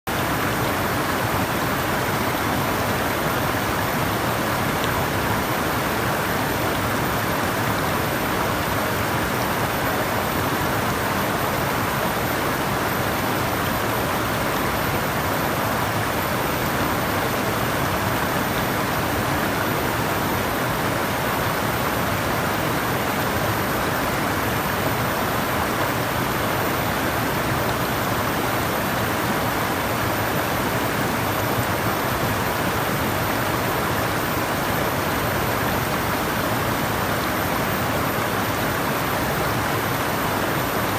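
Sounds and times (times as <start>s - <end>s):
water rushing: 0.1s - 40.9s.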